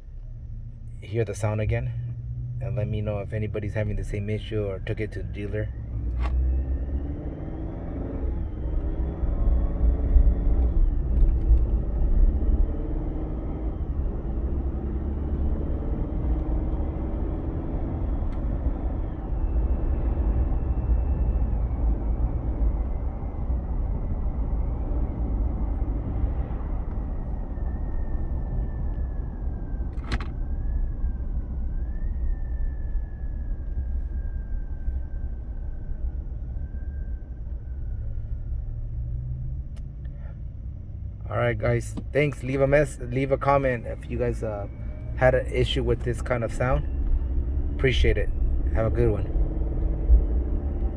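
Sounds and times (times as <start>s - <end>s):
car cabin engine rumble: 0.0s - 50.9s.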